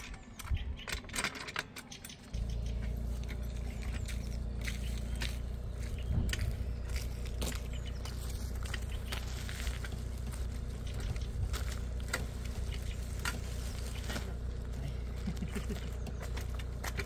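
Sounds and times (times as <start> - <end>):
steady low rumble: 2.3 - 17.0.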